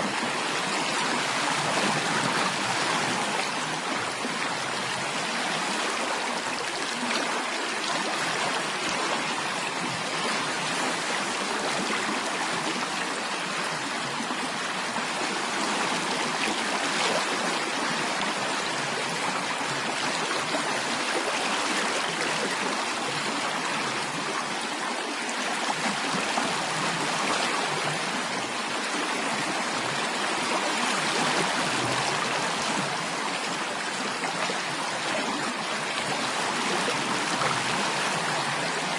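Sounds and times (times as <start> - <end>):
water flowing in a stream: 0.0 - 38.9.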